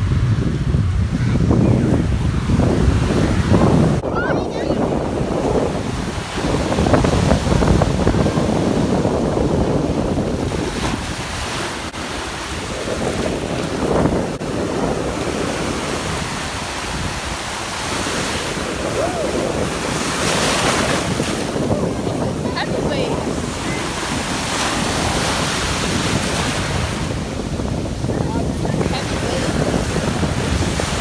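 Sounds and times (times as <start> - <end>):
ocean surf breaking: 0.0 - 31.0
wind rumbling on microphone: 0.0 - 31.0.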